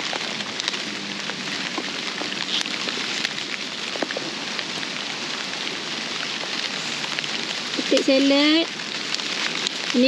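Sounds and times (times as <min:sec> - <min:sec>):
steady rain pattering: 0:00.0 - 0:10.0.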